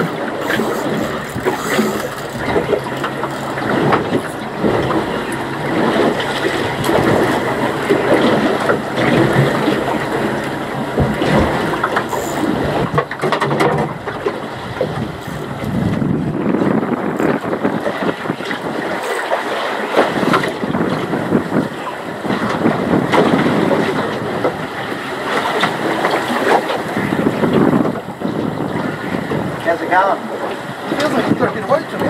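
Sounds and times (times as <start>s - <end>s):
water sloshing against boat hull: 0.0s - 32.0s
wind buffeting microphone: 0.0s - 32.0s.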